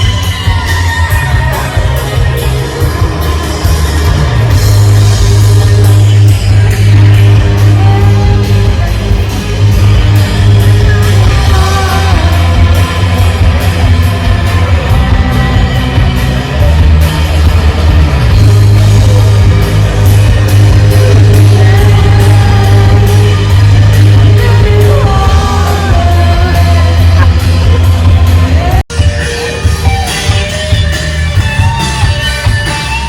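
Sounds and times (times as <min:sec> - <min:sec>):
person singing: 0:00.0 - 0:17.5, 0:18.7 - 0:30.6
heavy bass notes: 0:00.0 - 0:33.0
steady drum beat: 0:00.0 - 0:33.0.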